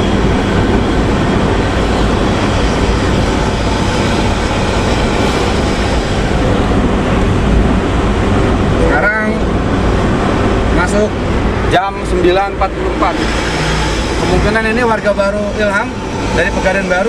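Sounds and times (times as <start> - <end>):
bus engine deep rumble: 0.0 - 17.0.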